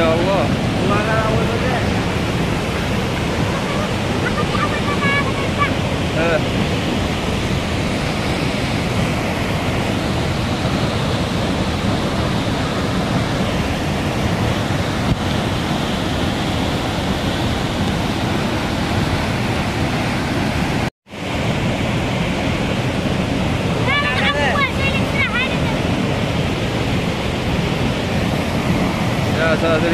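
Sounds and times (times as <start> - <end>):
waterfall rushing: 0.0 - 29.9
wind on microphone: 0.0 - 29.9.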